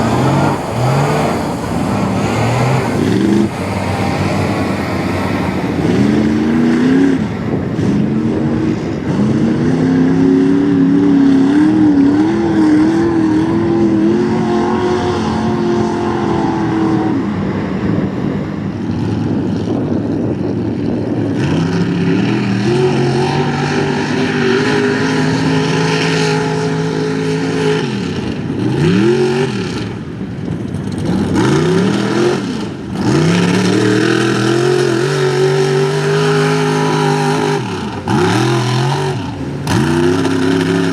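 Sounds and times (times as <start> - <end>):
truck engine revving: 0.0 - 40.9.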